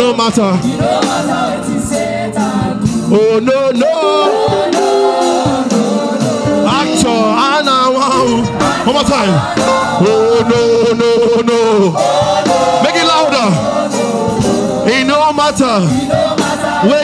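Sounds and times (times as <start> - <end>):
band accompaniment: 0.0 - 17.0
congregation singing: 0.0 - 17.0.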